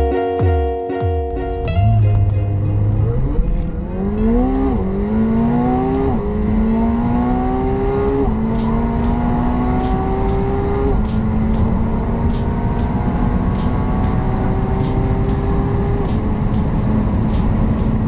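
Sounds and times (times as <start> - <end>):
car engine at full throttle: 2.2 - 18.0.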